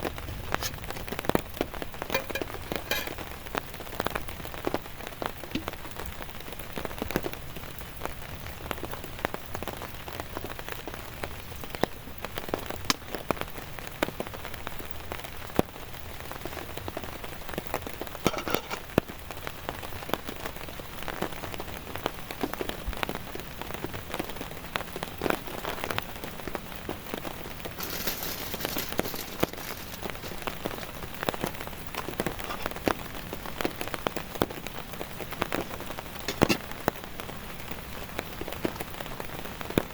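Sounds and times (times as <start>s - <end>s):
heavy rain falling: 0.0s - 39.9s
raindrops pattering: 0.0s - 39.9s.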